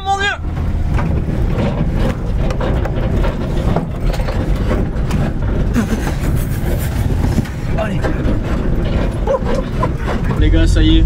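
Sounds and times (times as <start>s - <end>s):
car body rattling: 0.0s - 11.0s
engine and tyres rumbling: 0.0s - 11.0s.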